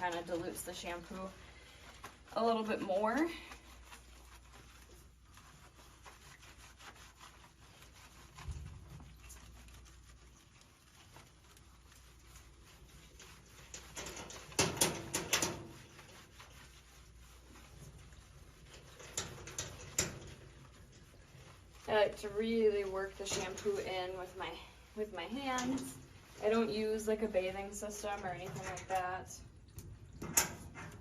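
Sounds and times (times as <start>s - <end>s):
hands rubbing dog's coat: 0.0s - 29.2s.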